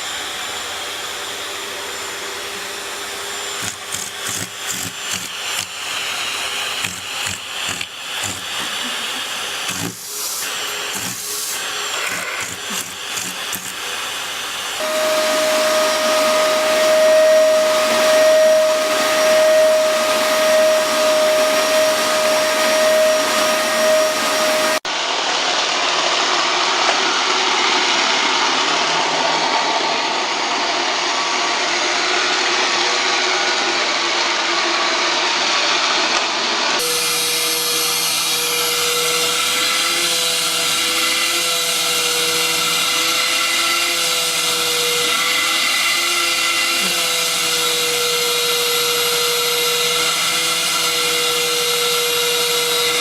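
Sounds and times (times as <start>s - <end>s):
vacuum cleaner motor running: 0.0s - 28.0s, 36.6s - 53.0s
vacuum whine: 0.0s - 53.0s.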